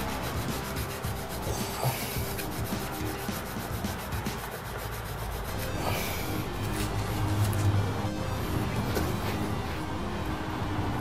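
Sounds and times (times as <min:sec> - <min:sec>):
tissue scrubbing circuit board: 0:00.0 - 0:09.9.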